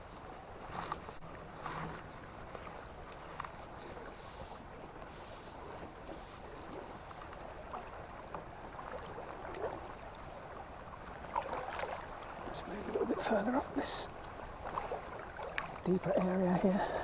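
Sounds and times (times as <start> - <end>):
river water running: 0.0 - 17.0.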